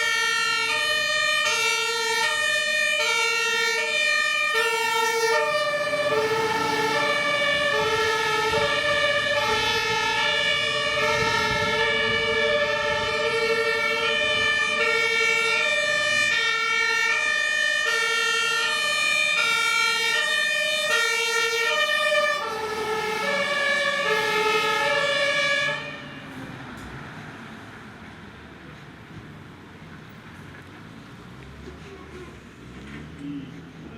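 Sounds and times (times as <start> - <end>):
two-tone fire engine siren: 0.0 - 28.1.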